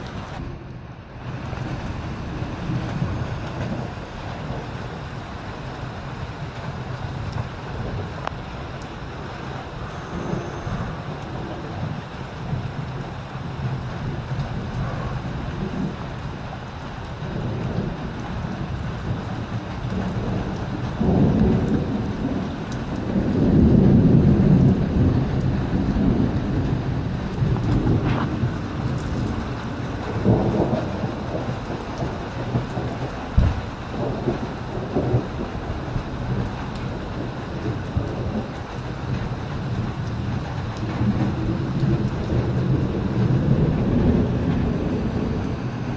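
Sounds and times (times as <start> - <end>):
steady rain: 0.0 - 45.9
thunder rumbling: 0.0 - 45.9.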